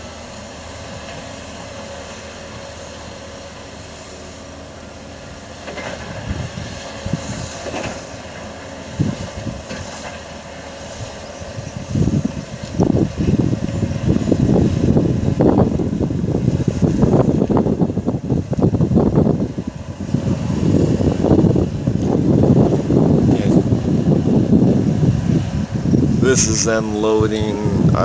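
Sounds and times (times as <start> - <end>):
distant diesel machinery drone: 0.0 - 28.0
wind buffeting microphone: 2.6 - 28.0.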